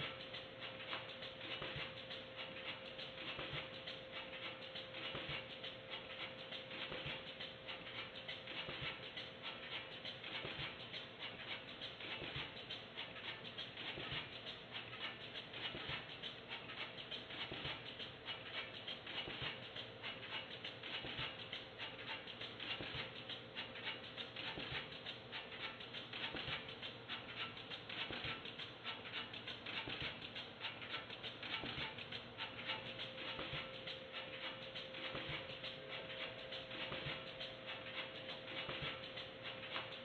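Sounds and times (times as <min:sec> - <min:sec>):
faint steady hum: 0:00.0 - 0:40.0
rapid clicking of machine parts: 0:00.0 - 0:40.0.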